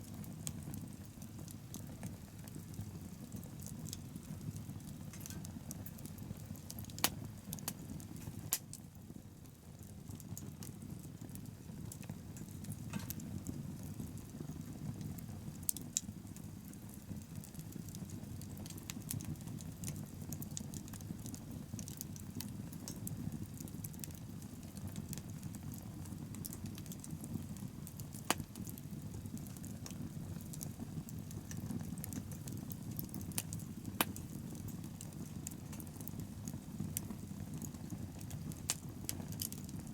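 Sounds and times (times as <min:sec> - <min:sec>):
bonfire flames rumbling: 0:00.0 - 0:39.9
burning wood crackling and popping: 0:00.0 - 0:39.9.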